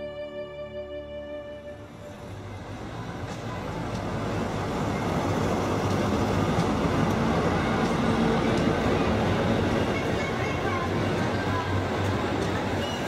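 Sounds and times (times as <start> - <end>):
diesel train engine passing: 1.6 - 13.0
train coaches rolling on rails: 1.9 - 13.0.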